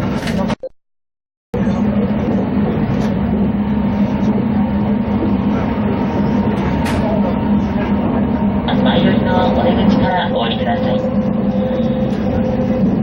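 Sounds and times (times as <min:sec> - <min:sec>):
train wheels rumbling on track: 0:01.6 - 0:13.0.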